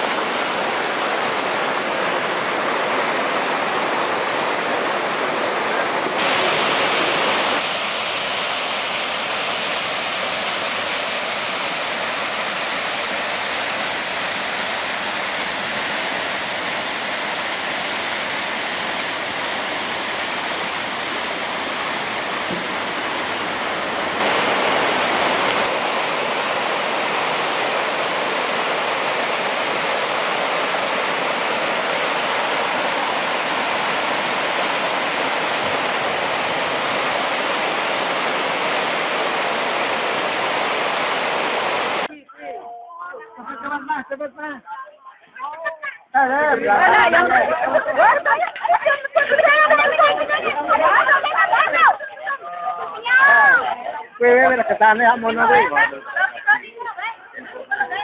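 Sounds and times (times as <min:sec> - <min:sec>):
flood water rushing over rocks: 0:00.0 - 0:42.1, 0:47.0 - 0:52.0.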